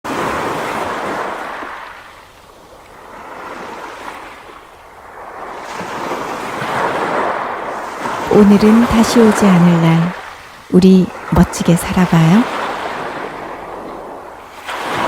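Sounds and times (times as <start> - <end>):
sea surf washing ashore: 0.1 - 15.0.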